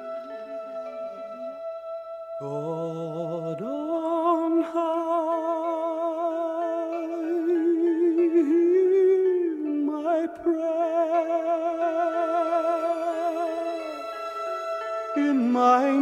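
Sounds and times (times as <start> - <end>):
slow background music: 0.0 - 16.0
voice singing with vibrato: 0.0 - 16.0.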